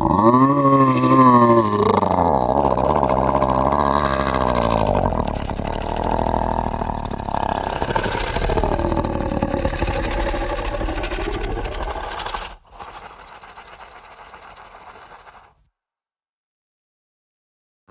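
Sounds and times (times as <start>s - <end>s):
monster growling: 0.0s - 15.6s.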